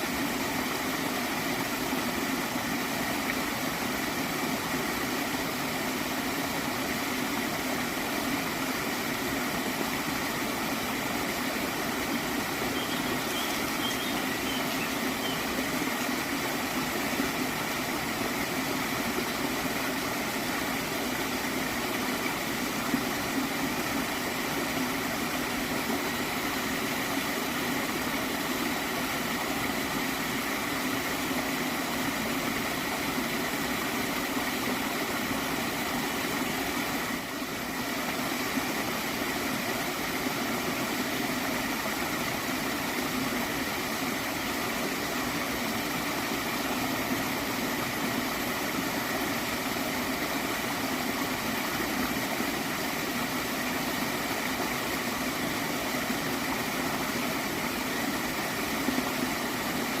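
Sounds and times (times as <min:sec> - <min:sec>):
stream gurgling: 0:00.0 - 1:00.0.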